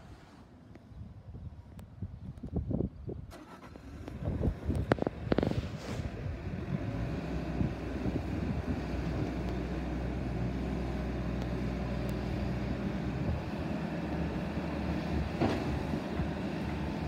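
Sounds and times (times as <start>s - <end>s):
diesel engine running: 3.3s - 17.0s.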